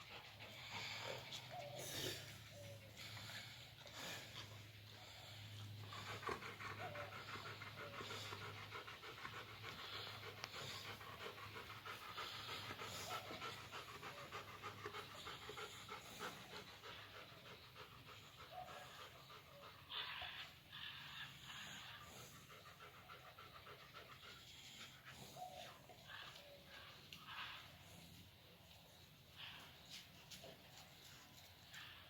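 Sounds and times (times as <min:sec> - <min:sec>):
fast panting breaths: 0:00.0 - 0:26.4.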